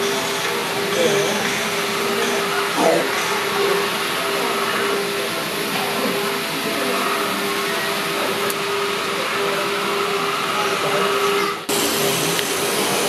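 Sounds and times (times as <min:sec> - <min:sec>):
hall noise: 0:00.0 - 0:13.0
model trains motors whirring: 0:00.0 - 0:13.0.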